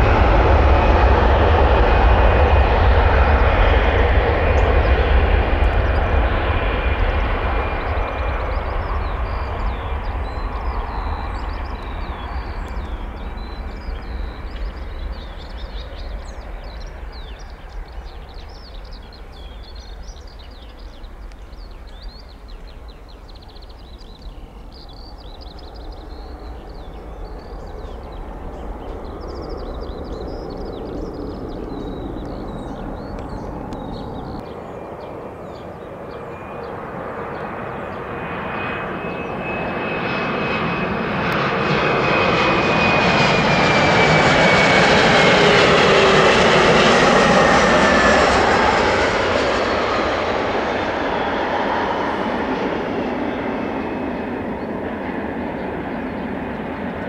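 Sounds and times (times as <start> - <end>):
airliner engine noise: 0.0 - 57.0
small birds chirping: 4.5 - 57.0.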